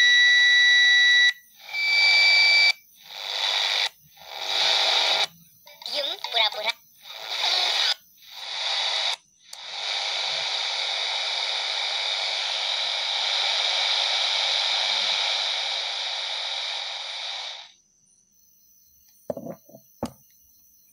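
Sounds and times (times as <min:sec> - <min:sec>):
radio static hissing: 0:00.0 - 0:17.8.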